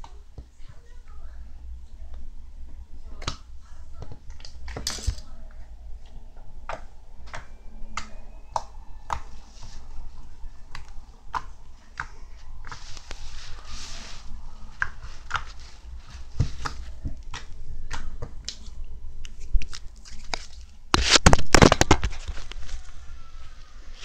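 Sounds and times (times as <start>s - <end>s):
soft crackling rustle: 0.0s - 24.0s.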